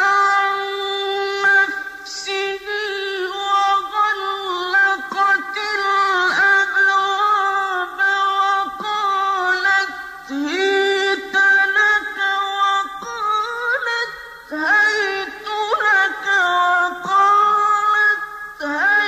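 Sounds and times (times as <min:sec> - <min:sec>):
person reciting melodically: 0:00.0 - 0:19.0.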